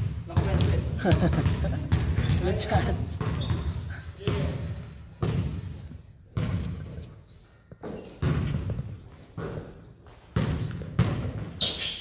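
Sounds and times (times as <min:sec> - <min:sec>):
basketball bouncing on hardwood floor: 0:00.0 - 0:07.1, 0:07.8 - 0:11.6.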